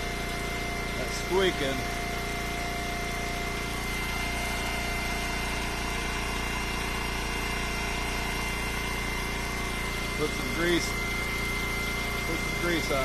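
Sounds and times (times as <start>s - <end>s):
gas engine idling: 0.0s - 13.0s.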